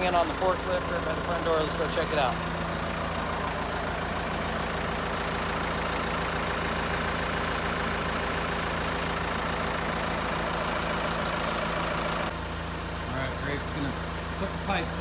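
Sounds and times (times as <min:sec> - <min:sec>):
forklift engine idling: 0:00.0 - 0:15.0.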